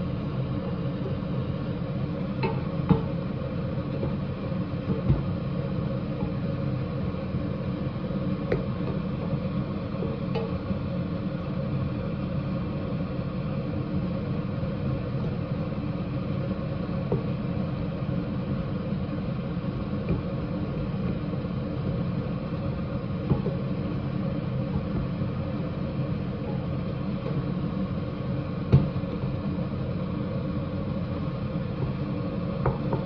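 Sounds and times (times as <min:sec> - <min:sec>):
low hum and rumble: 0:00.0 - 0:33.0.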